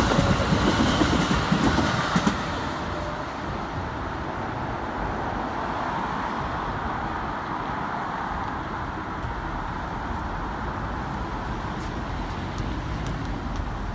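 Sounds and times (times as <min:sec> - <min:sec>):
highway traffic: 0:00.0 - 0:13.9.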